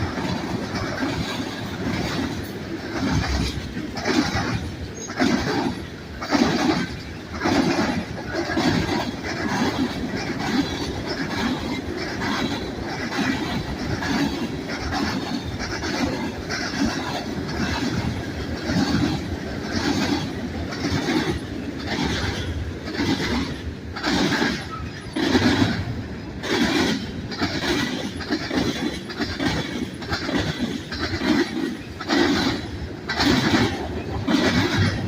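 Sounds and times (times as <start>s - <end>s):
freight train rumble: 0.0s - 35.0s.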